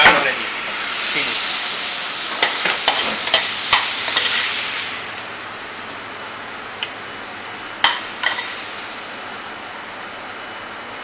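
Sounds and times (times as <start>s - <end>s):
stir-fry sizzling in hot pan: 0.0s - 9.7s.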